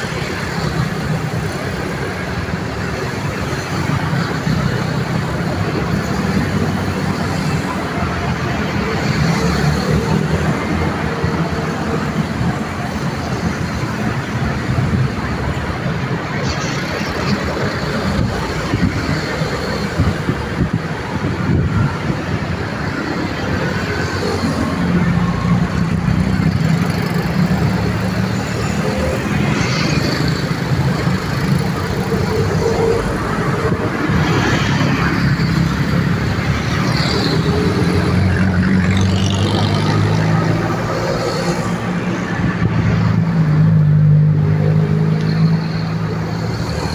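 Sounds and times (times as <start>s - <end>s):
road traffic passing: 0.0s - 46.9s.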